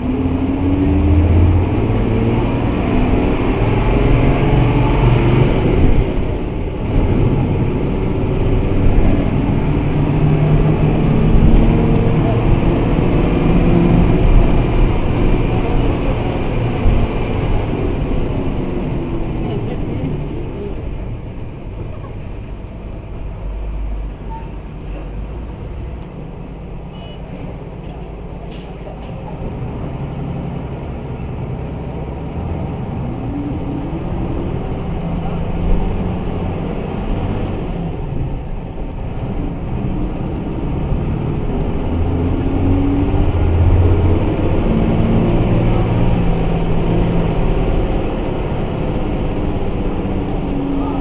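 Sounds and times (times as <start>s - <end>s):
bus diesel engine running: 0.0s - 51.0s.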